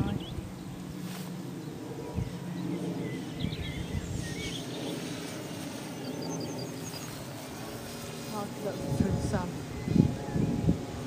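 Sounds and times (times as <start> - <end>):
small birds chirping: 0.0 - 10.9
wind rumbling on microphone: 0.0 - 11.0.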